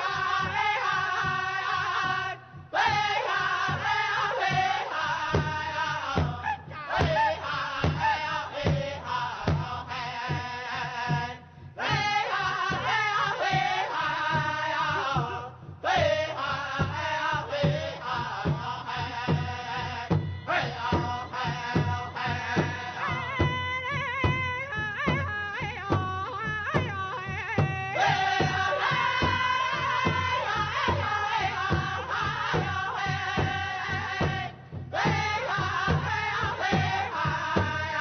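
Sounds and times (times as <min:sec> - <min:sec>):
steady drum beat: 0:00.0 - 0:38.0.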